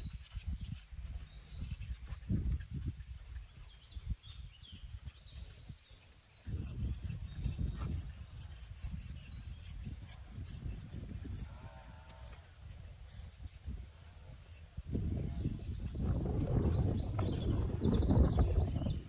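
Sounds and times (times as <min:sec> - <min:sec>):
rubbing and scraping: 0:00.0 - 0:19.0
small birds chirping: 0:00.0 - 0:19.0.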